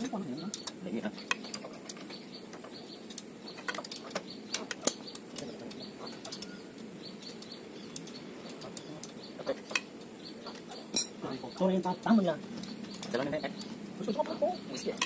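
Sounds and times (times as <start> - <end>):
tools clicking and tapping: 0.0 - 15.0.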